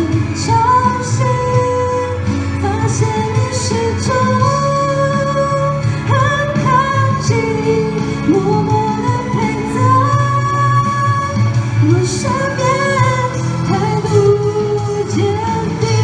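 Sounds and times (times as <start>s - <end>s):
instrumental backing track: 0.0s - 16.0s
woman singing into microphone: 0.0s - 16.0s.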